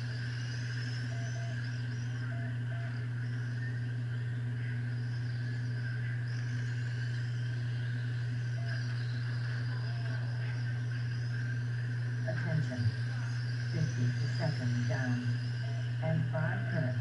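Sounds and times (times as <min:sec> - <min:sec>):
electric motors whining: 0:00.0 - 0:17.0
loud low hum: 0:00.0 - 0:17.0.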